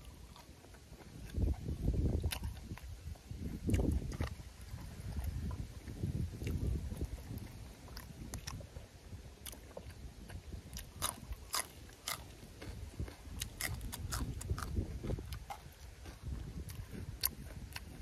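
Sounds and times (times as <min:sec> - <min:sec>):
person crunching raw vegetable: 0:00.0 - 0:18.0.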